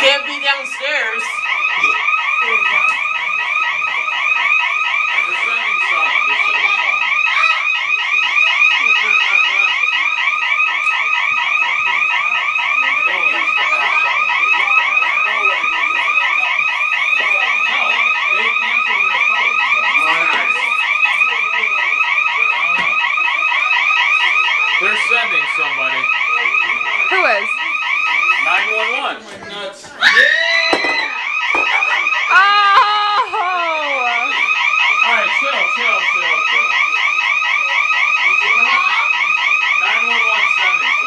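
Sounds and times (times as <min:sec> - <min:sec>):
warbling house alarm siren: 0:00.0 - 0:29.3, 0:30.0 - 0:41.0.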